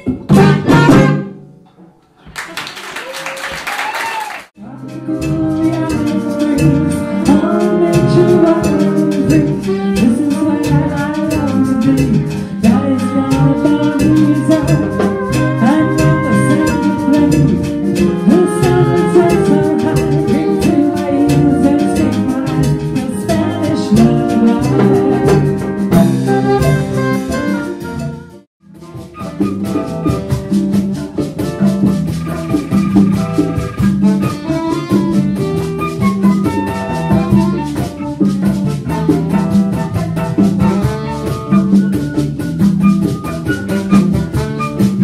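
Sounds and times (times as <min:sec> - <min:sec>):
salsa dance music: 0:05.0 - 0:28.4, 0:29.0 - 0:45.0.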